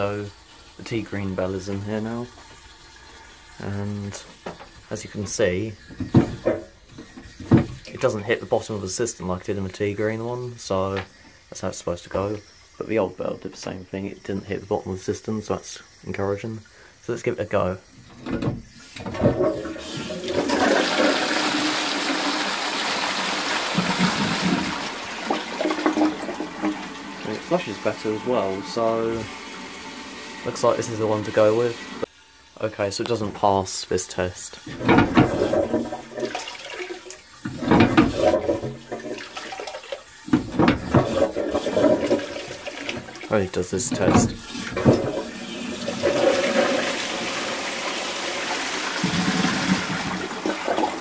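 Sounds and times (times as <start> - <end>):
toilet flush water rushing: 0.0 - 51.0.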